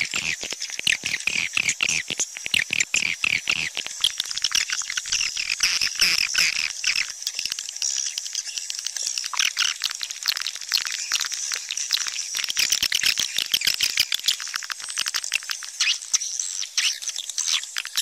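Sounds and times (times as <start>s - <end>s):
swiftlets twittering and chirping: 0.0s - 18.0s.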